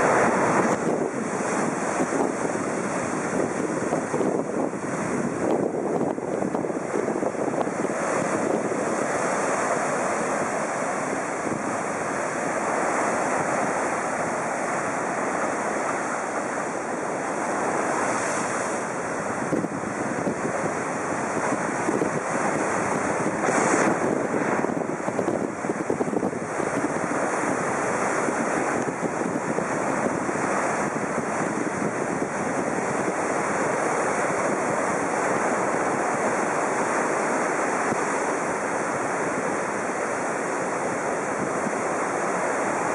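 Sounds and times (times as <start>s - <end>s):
heavy surf breaking on beach: 0.0s - 42.9s
wind buffeting microphone: 0.0s - 42.9s.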